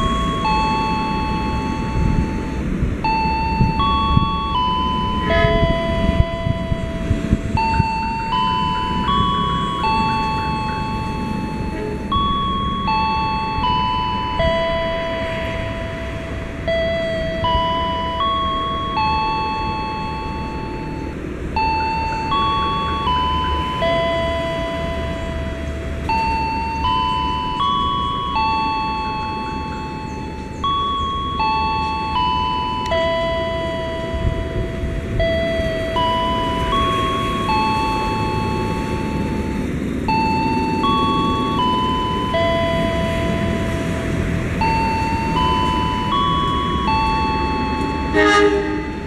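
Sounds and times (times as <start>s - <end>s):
electronic chime melody: 0.0s - 49.0s
low train rumble: 0.0s - 49.0s.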